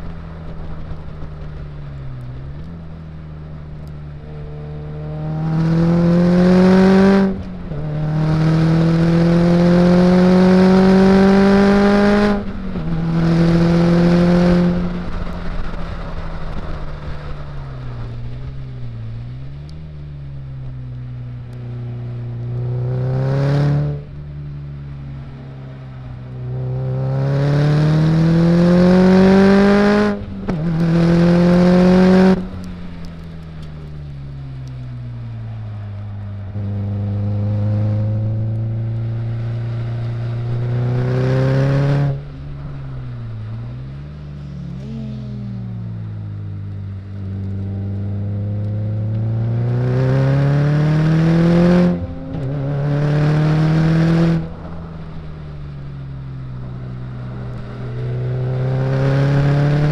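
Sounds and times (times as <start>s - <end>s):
car engine accelerating hard: 3.6s - 17.4s, 20.4s - 24.2s, 24.8s - 59.9s.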